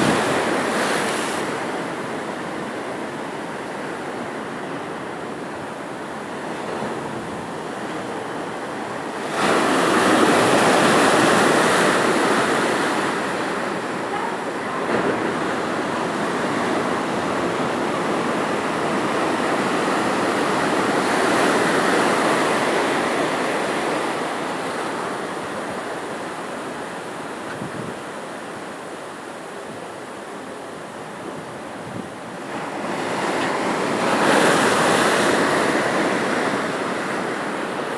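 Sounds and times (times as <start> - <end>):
waves breaking on shore: 0.0 - 37.9.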